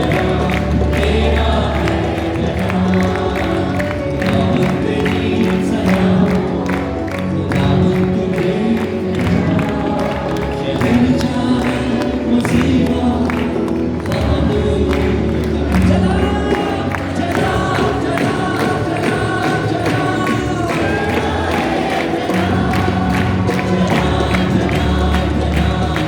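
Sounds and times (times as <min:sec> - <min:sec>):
congregation singing: 0:00.0 - 0:26.0
person singing: 0:00.0 - 0:26.0
worship band playing: 0:00.0 - 0:26.0.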